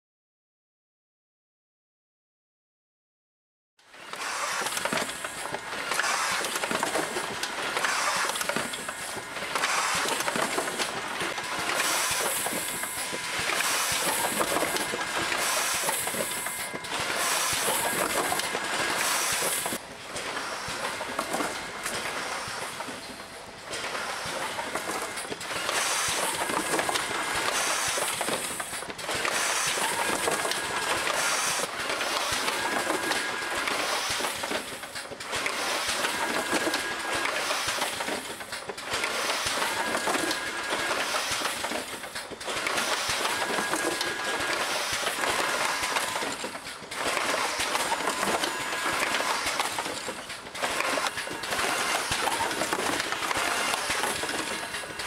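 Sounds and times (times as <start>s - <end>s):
packing machinery running: 3.8s - 55.0s.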